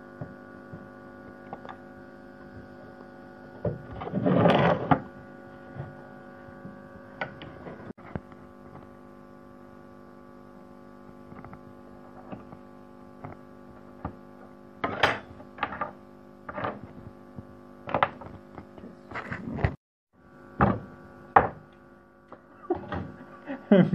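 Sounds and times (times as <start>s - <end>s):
electrical hum: 0.0s - 23.9s.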